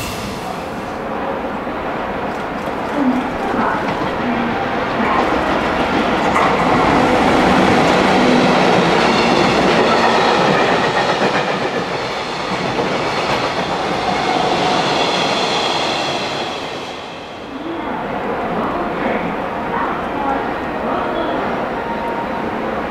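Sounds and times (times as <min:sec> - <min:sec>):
freight train passing: 0:00.0 - 0:22.9.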